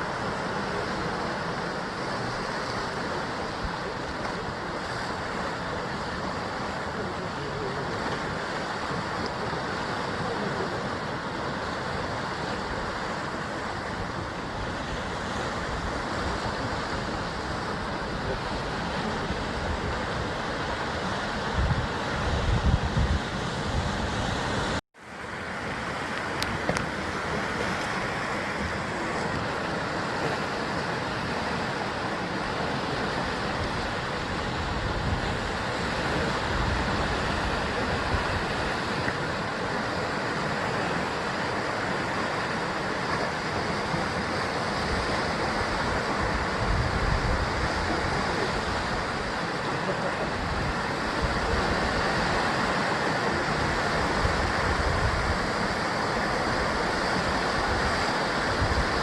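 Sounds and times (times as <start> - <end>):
surf on rocky shore: 0.0 - 59.0.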